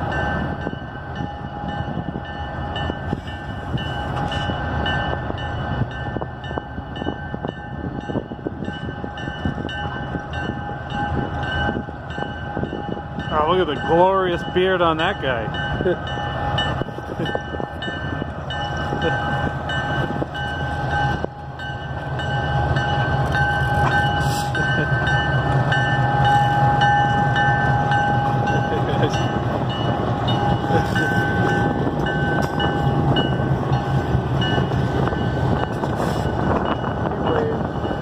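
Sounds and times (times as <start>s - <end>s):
railroad cars rolling past: 0.0s - 38.0s.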